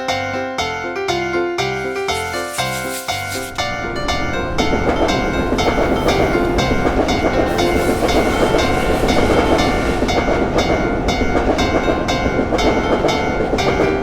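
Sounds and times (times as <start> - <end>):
train rumbling: 1.6 - 14.0.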